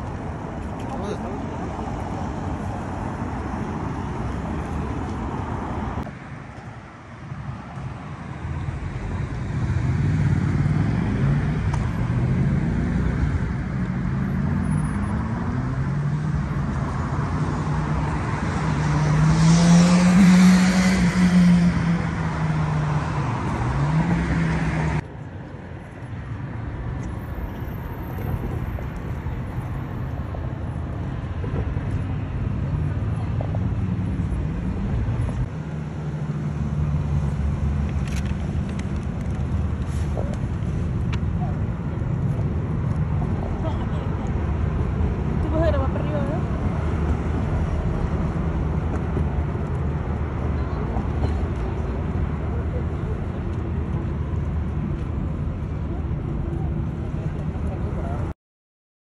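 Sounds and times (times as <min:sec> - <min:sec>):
cars driving past: 0:00.0 - 0:58.3
traffic hum: 0:00.0 - 0:58.4.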